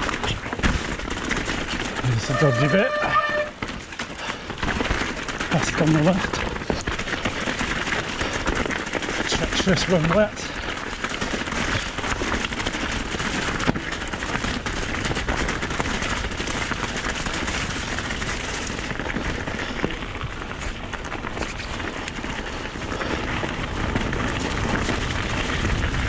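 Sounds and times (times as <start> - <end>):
bike rattling: 0.0 - 26.0
bike tyres crunching over stones: 0.0 - 26.0.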